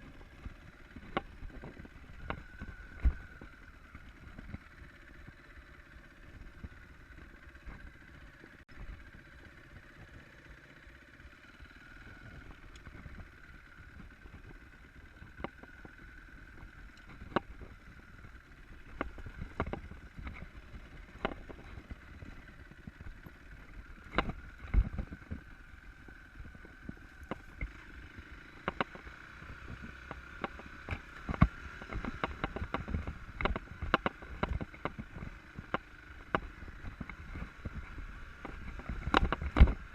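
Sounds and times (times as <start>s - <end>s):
faint motorcycle engine tone: 0.0s - 39.9s.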